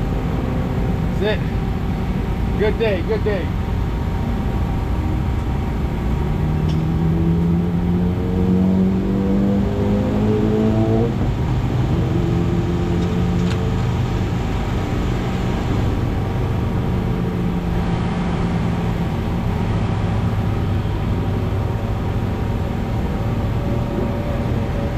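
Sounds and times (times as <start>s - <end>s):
steady rush of noise: 0.0s - 9.4s, 10.4s - 24.9s.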